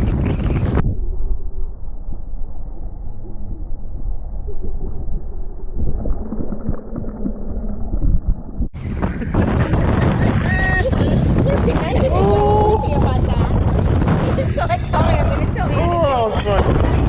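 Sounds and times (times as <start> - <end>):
muffled water rushing and gurgling: 0.0 - 17.0.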